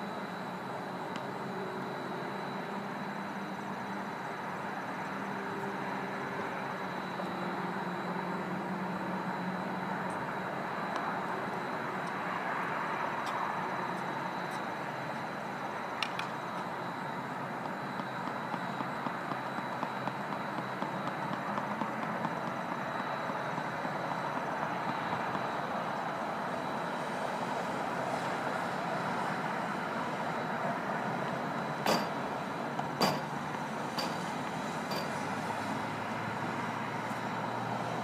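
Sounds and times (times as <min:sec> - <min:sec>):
constant high-pitched tone: 0:00.0 - 0:38.0
outdoor background noise: 0:00.0 - 0:38.0.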